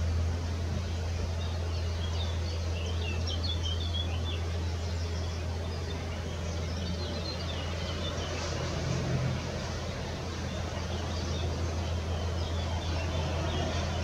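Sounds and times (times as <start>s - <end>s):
small songbirds chirping: 0.0s - 14.0s
steady low hum: 0.0s - 14.0s.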